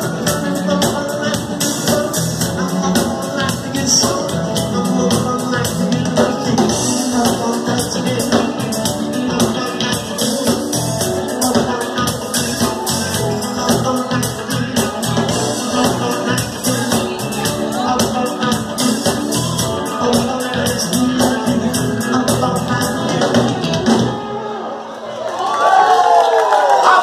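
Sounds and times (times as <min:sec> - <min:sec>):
live band playing: 0:00.0 - 0:24.9.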